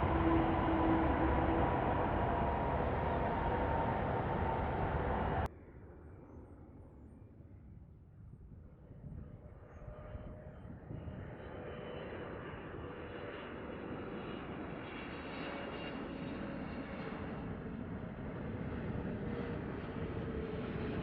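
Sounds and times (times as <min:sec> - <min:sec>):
distant airliner engines: 0:00.0 - 0:06.7, 0:08.9 - 0:21.0.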